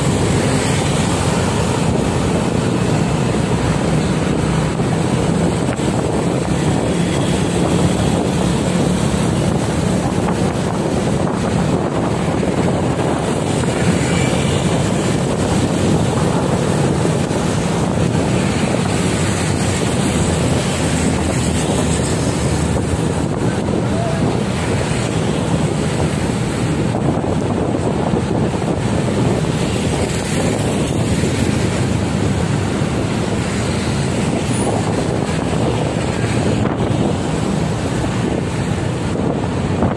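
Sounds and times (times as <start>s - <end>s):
motorcycle engine humming: 0.0s - 39.9s
tyre noise on road: 0.0s - 39.9s
wind rushing over microphone: 0.0s - 39.9s.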